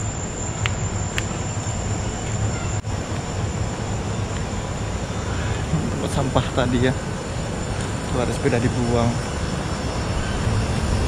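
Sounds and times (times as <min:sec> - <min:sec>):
high-pitched insect drone: 0:00.0 - 0:11.0
outdoor rumble and hiss: 0:00.0 - 0:11.0.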